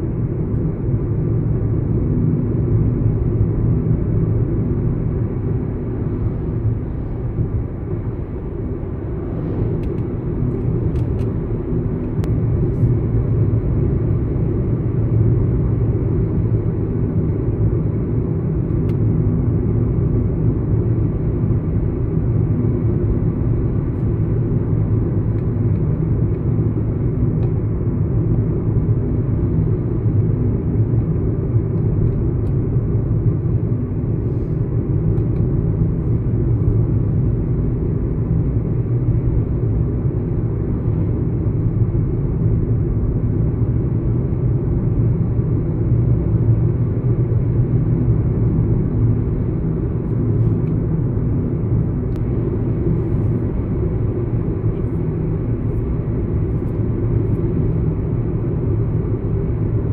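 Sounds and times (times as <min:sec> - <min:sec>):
car interior engine and road rumble: 0:00.0 - 0:59.9.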